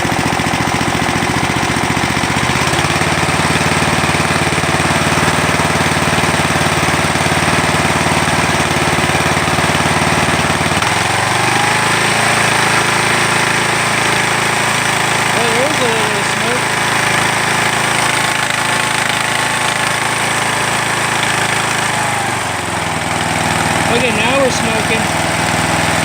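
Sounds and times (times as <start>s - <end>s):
lawn tractor engine running: 0.0s - 26.0s.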